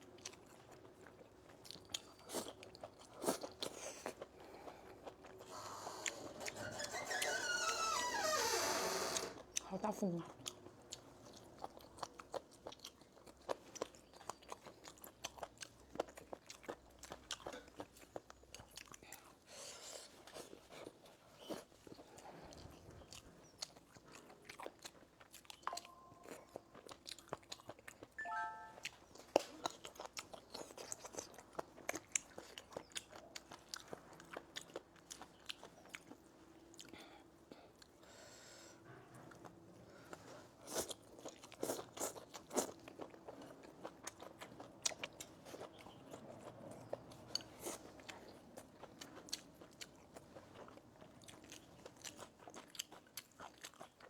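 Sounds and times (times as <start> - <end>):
person chewing and crunching food: 0.0 - 6.6, 10.3 - 38.2, 39.3 - 54.0.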